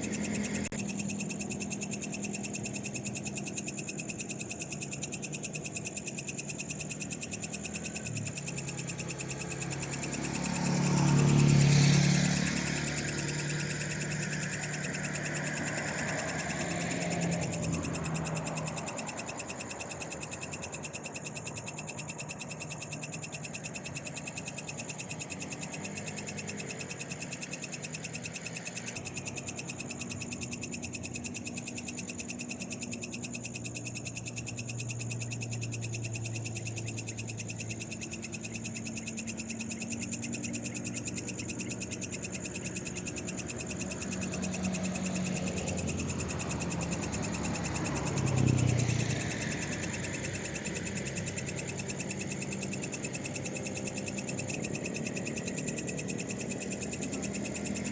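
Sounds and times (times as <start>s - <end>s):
frogs calling: 0.0s - 57.9s
insects trilling: 0.0s - 57.9s.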